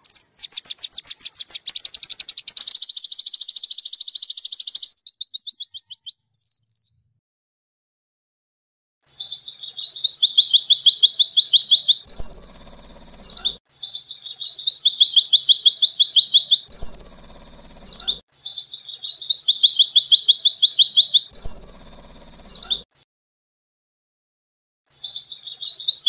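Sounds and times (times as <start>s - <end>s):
bird song with buzzy trill: 0.0s - 7.1s, 9.0s - 22.9s, 24.9s - 26.0s.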